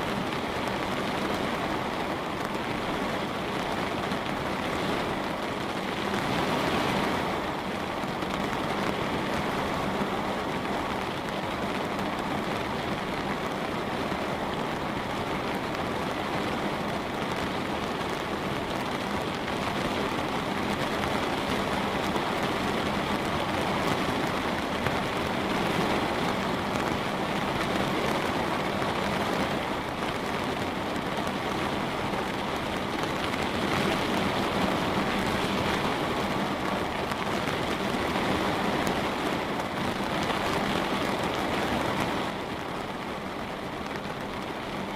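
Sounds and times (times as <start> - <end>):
rain pattering on window: 0.0 - 44.9.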